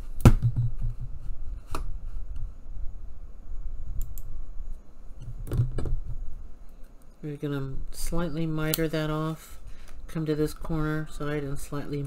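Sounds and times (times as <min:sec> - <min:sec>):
low rumble of handling noise: 0:00.0 - 0:12.0.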